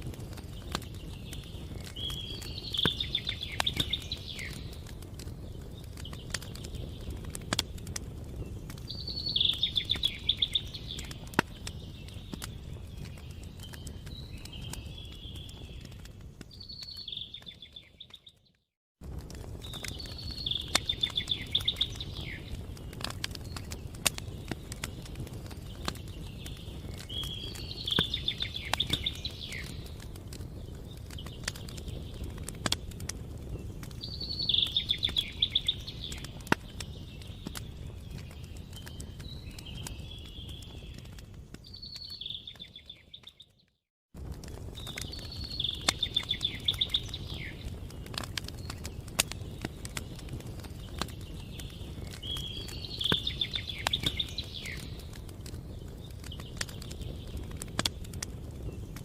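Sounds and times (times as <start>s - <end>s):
wood fire crackling and popping: 0.0s - 59.0s
bird chirping trills: 0.4s - 4.8s, 8.4s - 18.6s, 19.7s - 30.0s, 33.5s - 43.7s, 44.8s - 57.4s.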